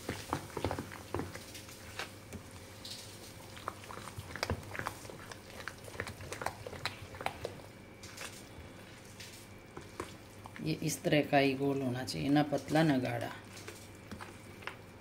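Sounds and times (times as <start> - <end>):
spoon stirring thick batter: 0.0 - 15.0.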